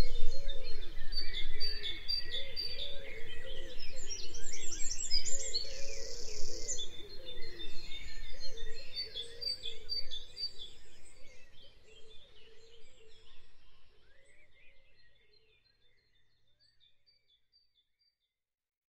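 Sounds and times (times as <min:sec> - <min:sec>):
birds chirping and singing: 0:00.0 - 0:15.2.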